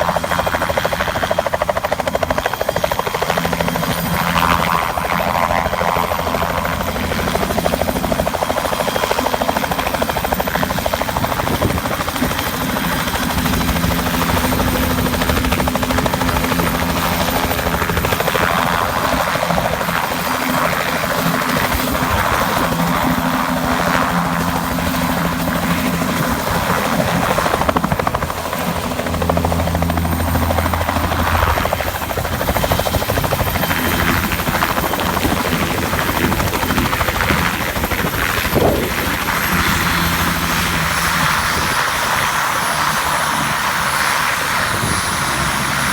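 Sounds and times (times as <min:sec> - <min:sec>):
helicopter running close by: 0:00.0 - 0:45.9.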